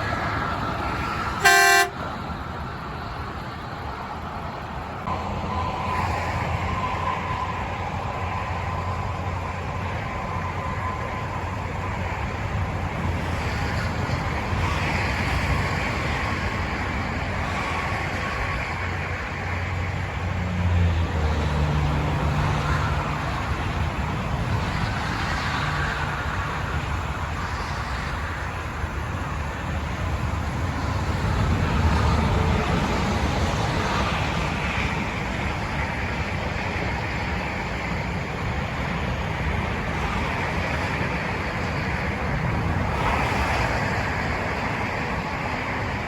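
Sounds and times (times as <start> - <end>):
vehicle tyre and engine noise: 0.0 - 46.0.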